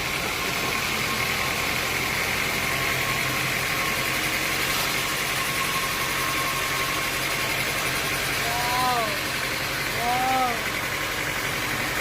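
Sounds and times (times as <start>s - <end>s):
sawmill machinery drone: 0.0s - 12.0s.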